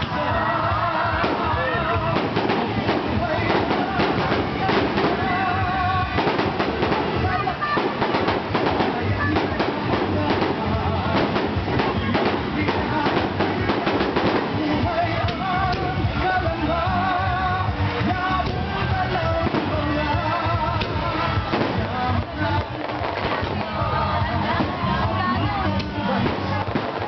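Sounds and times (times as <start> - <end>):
fireworks bursting and crackling: 0.0 - 27.0
loud music: 0.0 - 27.0
person singing: 0.0 - 27.0.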